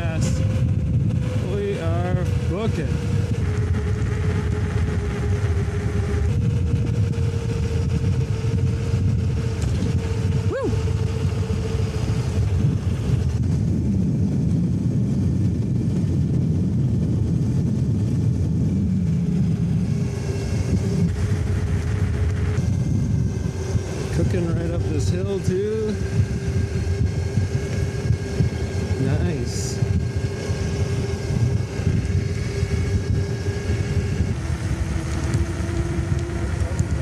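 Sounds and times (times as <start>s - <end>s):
hub motor whine: 0.0s - 37.0s
wind noise on microphone: 0.0s - 37.0s.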